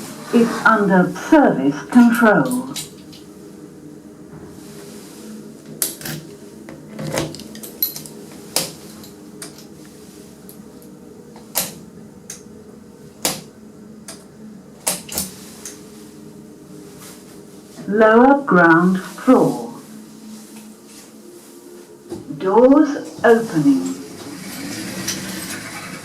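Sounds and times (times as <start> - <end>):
lift low hum: 0.0 - 26.0.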